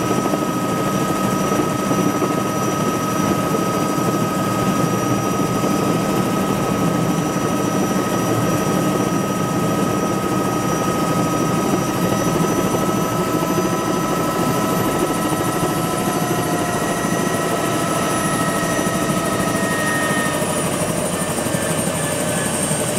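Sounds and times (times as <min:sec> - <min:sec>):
helicopter rotor and engine: 0:00.0 - 0:22.9
helicopter whine: 0:00.0 - 0:22.9.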